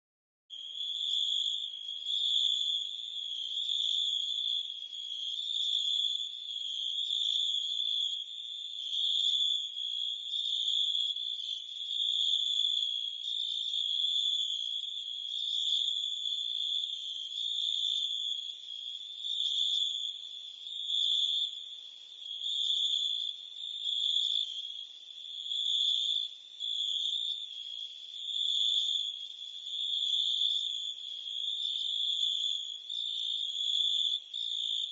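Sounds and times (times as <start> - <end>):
crickets and cicadas chirping: 0.5 - 34.9.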